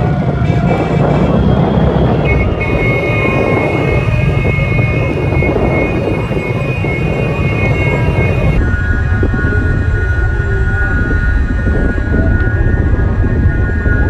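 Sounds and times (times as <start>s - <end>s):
motorcycles running at speed: 0.0s - 14.0s
steady high-pitched tone: 0.0s - 14.0s
wind on microphone: 0.0s - 14.0s.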